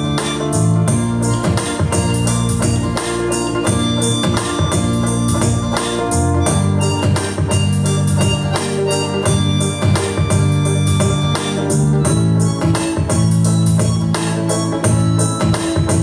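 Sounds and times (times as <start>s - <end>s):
bass line: 0.0s - 16.0s
drum beat: 0.0s - 16.0s
electronic organ chords: 0.0s - 16.0s.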